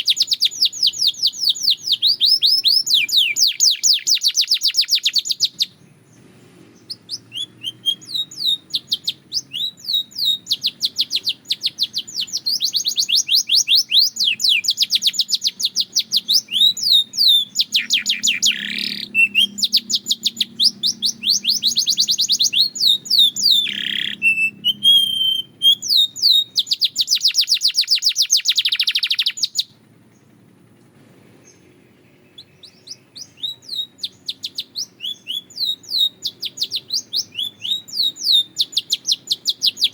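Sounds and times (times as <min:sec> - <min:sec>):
canary singing trills: 0:00.0 - 0:30.5, 0:31.4 - 0:39.9.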